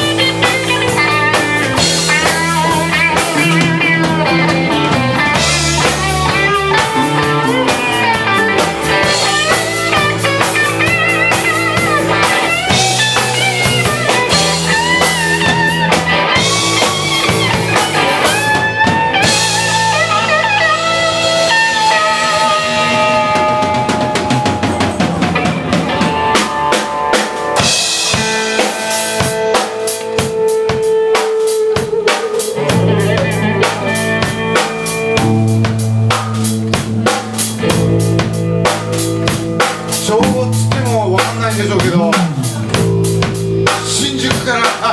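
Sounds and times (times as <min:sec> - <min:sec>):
bass: 0:00.0 - 0:44.9
drums: 0:00.0 - 0:44.9
electric guitar lead: 0:00.0 - 0:44.9.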